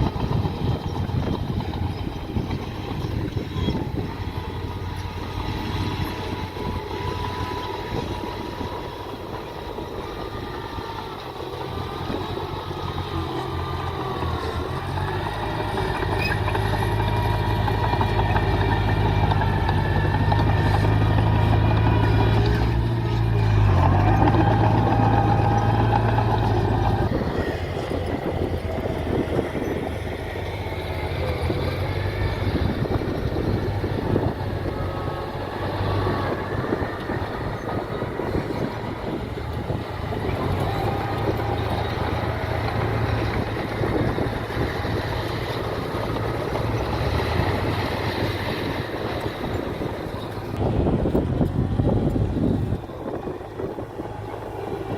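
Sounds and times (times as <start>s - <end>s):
heavy machinery diesel engines running: 0.0s - 54.9s.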